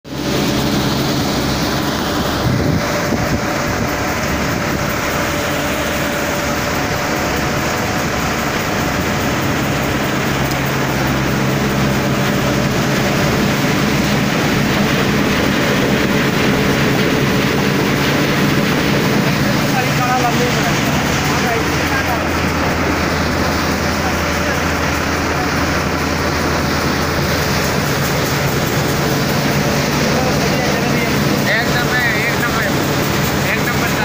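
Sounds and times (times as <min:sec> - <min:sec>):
diesel tractor engine humming: 0:00.1 - 0:34.0
threshed material rushing: 0:00.1 - 0:34.0
thresher drum and blower spinning: 0:00.1 - 0:34.0.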